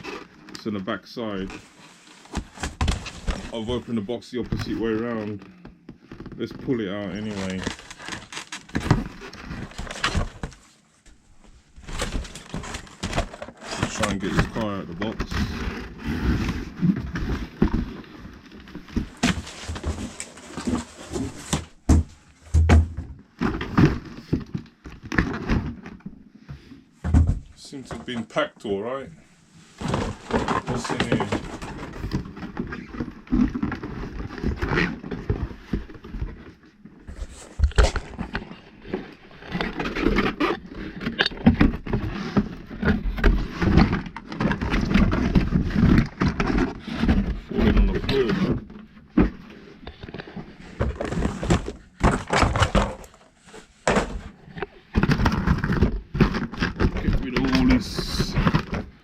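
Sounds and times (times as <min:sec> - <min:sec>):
cardboard scraping and rustling: 0:00.0 - 0:10.8, 0:11.5 - 0:29.0, 0:29.6 - 0:59.0.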